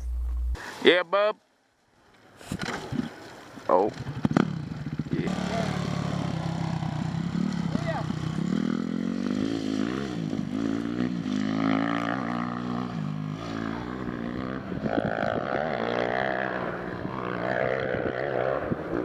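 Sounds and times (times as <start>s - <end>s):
dirt bike engine revving: 2.5s - 19.0s.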